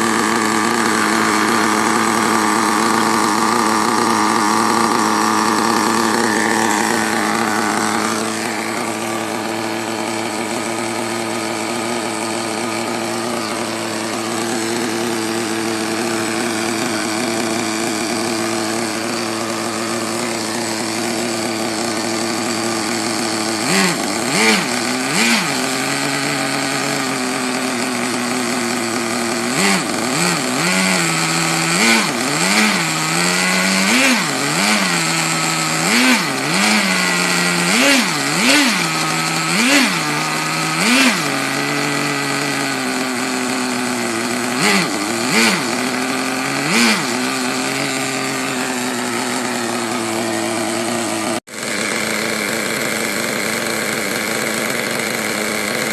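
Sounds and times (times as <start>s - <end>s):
small engine idling and revving: 0.0s - 55.9s.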